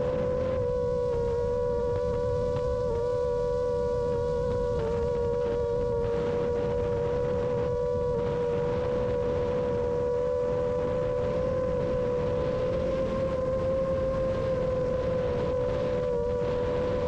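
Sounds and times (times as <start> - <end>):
drone motors whining: 0.0 - 17.0
steady rushing noise: 0.0 - 17.0.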